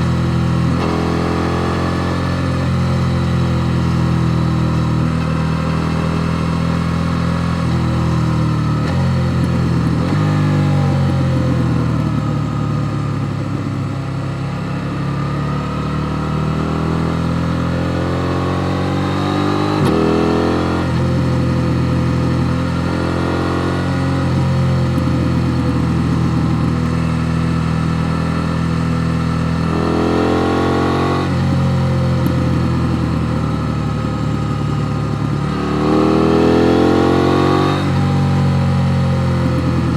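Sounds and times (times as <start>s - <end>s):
motorcycle engine revving under load: 0.0s - 39.9s.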